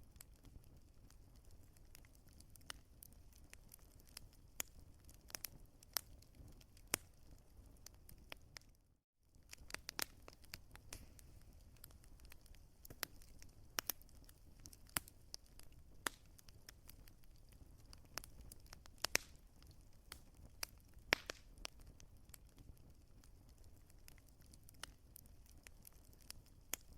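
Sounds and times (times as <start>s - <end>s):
low rumble of flames: 0.0s - 26.9s
wood fire crackling: 0.0s - 26.9s.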